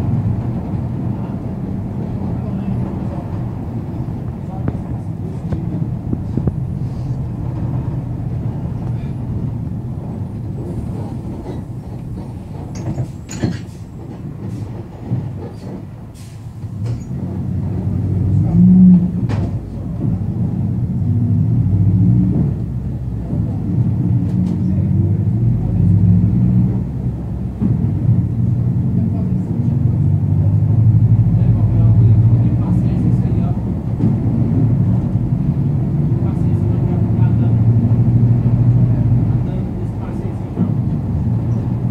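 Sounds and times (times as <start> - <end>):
diesel bus engine running: 0.0 - 41.9.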